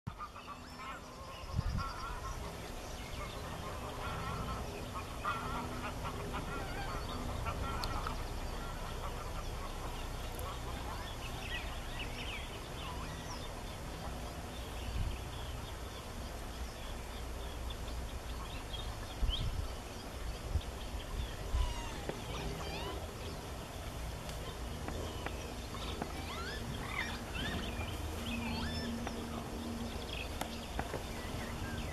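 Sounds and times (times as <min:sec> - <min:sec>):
steady low rumble: 0:00.1 - 0:31.9.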